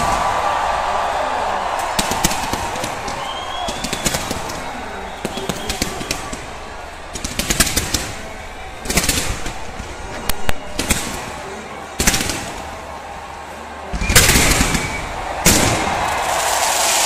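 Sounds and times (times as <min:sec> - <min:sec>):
fireworks crackling pops: 0:00.0 - 0:11.4, 0:12.0 - 0:12.8, 0:14.0 - 0:17.0
loud firework bursts: 0:00.0 - 0:12.9, 0:13.9 - 0:17.0.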